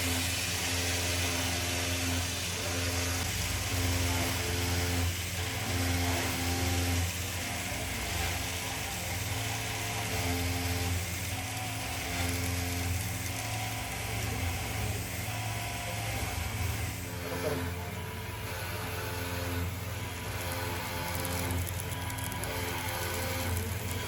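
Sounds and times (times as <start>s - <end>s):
woodturning machine humming: 0.0s - 24.0s.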